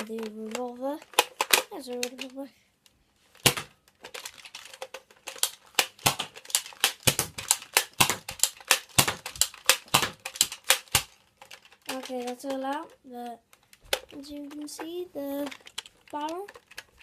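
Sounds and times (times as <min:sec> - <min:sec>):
plastic toy gun clicks and rattles: 0:00.0 - 0:17.0.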